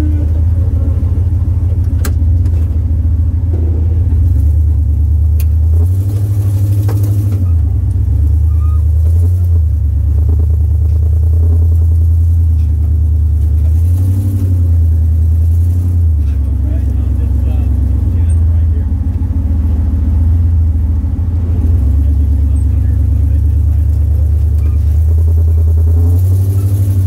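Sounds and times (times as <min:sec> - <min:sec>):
off-road vehicle engine rumbling: 0:00.0 - 0:27.0.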